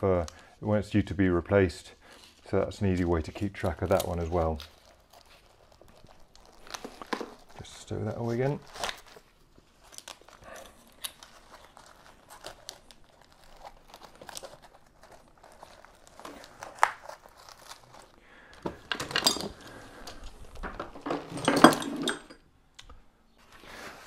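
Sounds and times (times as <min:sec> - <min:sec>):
rustling and crinkling of gear: 0:00.0 - 0:22.4, 0:23.3 - 0:24.0.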